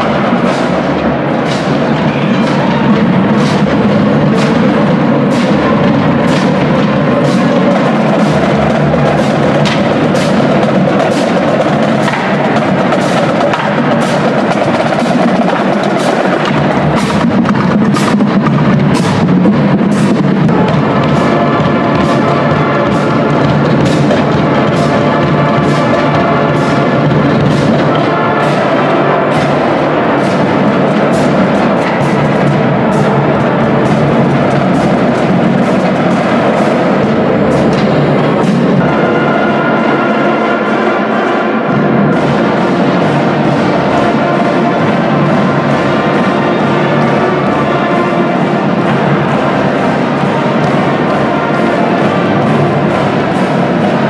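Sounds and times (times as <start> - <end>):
bass drums beating: 0.0 - 54.0
wind instruments holding chords: 0.0 - 54.0.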